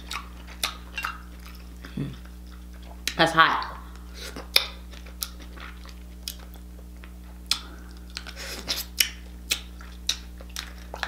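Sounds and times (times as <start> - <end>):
close-miked chewing and smacking: 0.0 - 3.2, 3.9 - 11.0.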